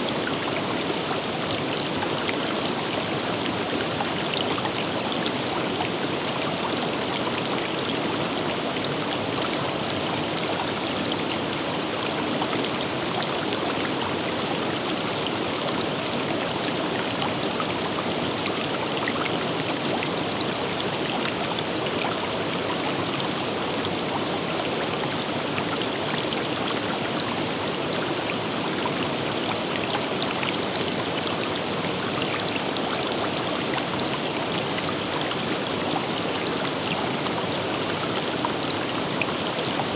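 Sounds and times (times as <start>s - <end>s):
river flowing over rocks: 0.1s - 39.9s.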